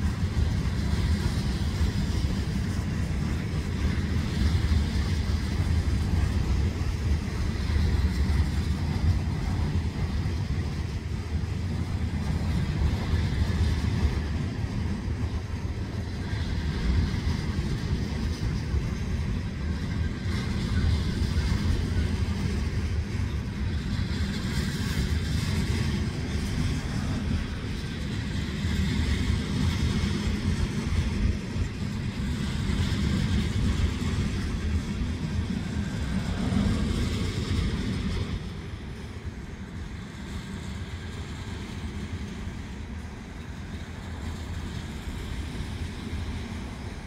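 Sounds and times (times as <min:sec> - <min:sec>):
freight cars rumbling and rattling: 0:00.0 - 0:47.0.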